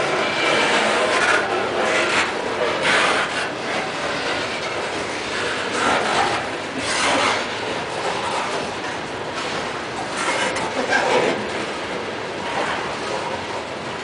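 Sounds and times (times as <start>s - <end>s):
steel wheels rolling on rail: 0.0s - 14.0s.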